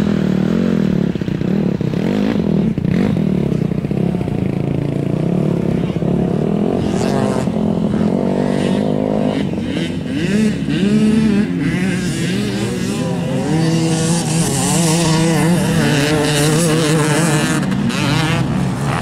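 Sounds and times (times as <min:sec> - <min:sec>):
motocross engines revving: 0:00.0 - 0:19.0.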